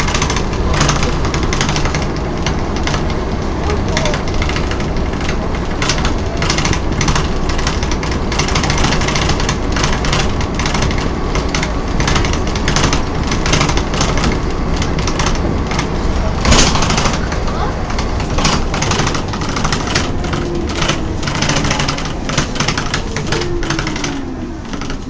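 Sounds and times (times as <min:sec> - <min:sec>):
bodywork rattling and knocking: 0:00.0 - 0:25.0
bus engine running: 0:00.0 - 0:25.0
road rumble: 0:00.0 - 0:25.0.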